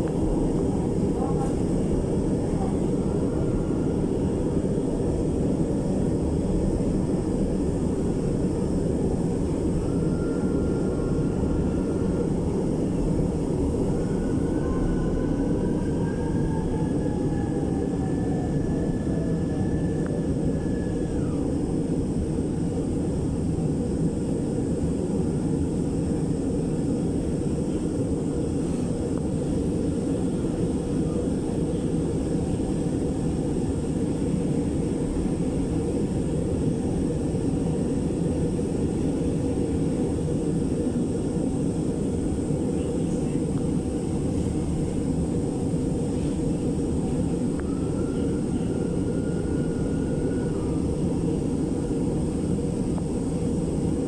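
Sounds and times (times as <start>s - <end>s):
faint whines: 0.0s - 54.0s
train rumbling on track: 0.0s - 54.0s.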